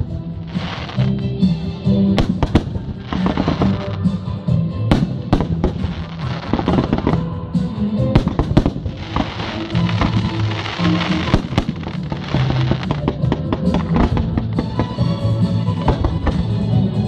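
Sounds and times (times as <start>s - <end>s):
fireworks banging and crackling: 0.0s - 17.0s
music playing: 0.0s - 17.0s.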